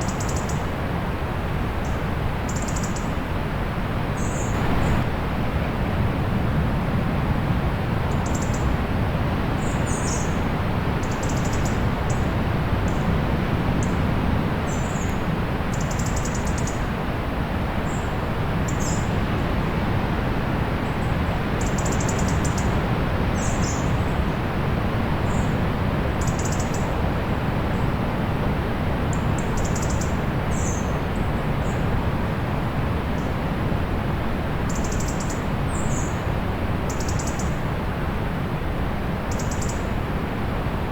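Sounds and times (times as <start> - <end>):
distant sea surf: 0.7 - 40.9.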